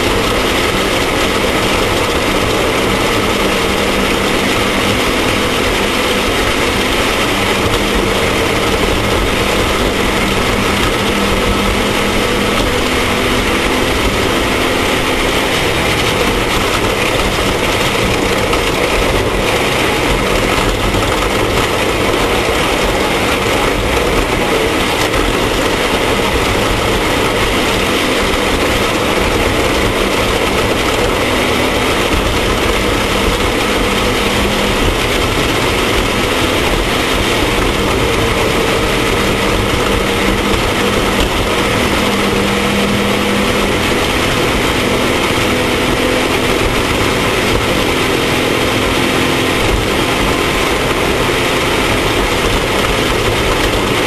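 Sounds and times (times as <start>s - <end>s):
loud rush of noise: 0.0s - 54.0s
race vehicle engine at high revs: 0.0s - 54.0s.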